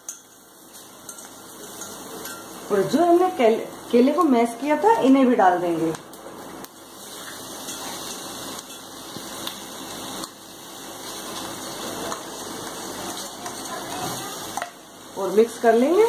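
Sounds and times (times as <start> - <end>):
oil sizzling in a pan: 0.0 - 16.0.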